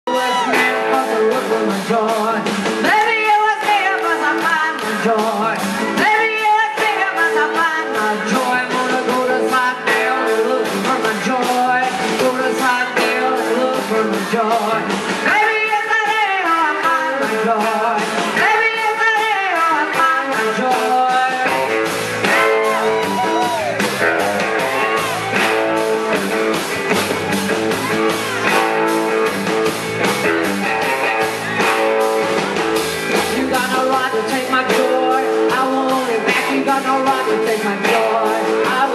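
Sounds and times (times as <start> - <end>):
bass guitar: 0.0 - 38.9
drums keeping a beat: 0.1 - 38.9
electric guitars: 0.1 - 38.9
woman singing lead: 0.1 - 38.9.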